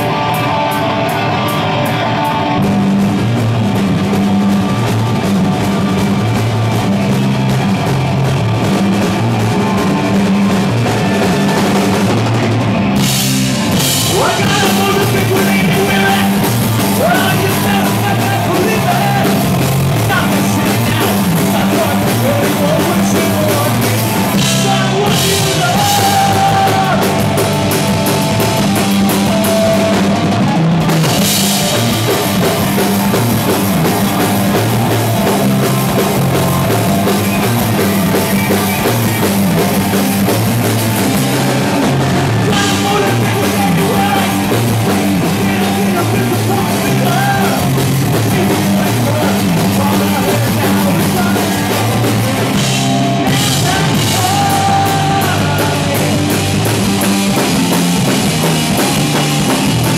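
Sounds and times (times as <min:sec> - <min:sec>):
bass guitar: 0:00.0 - 0:59.9
electric guitar: 0:00.0 - 0:59.9
drum kit with cymbals: 0:02.6 - 0:59.9.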